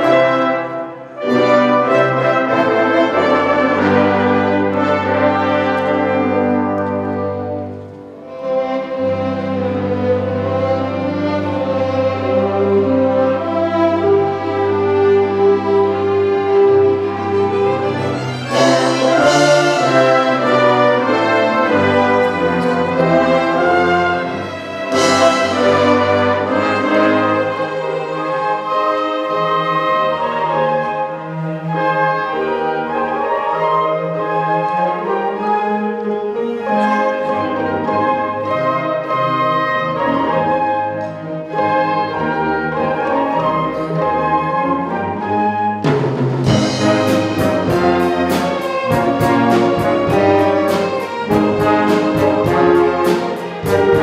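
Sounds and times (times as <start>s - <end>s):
brass: 0.0s - 54.0s
orchestra playing: 0.0s - 54.0s.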